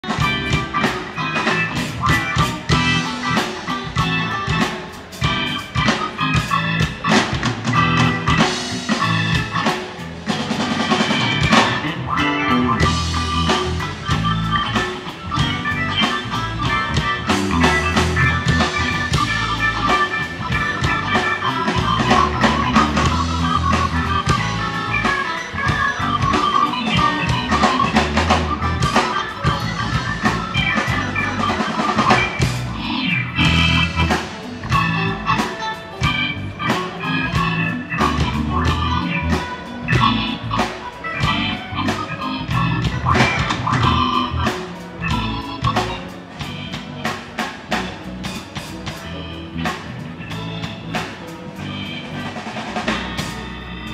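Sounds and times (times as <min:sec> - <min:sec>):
electric guitar: 0:00.0 - 0:53.9
live rock band playing: 0:00.0 - 0:53.9.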